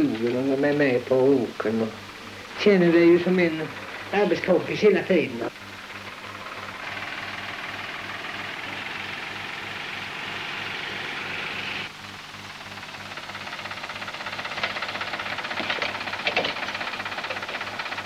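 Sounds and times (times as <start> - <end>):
pulsing engine sound: 2.1 - 18.0
tractor engine running: 2.1 - 18.0.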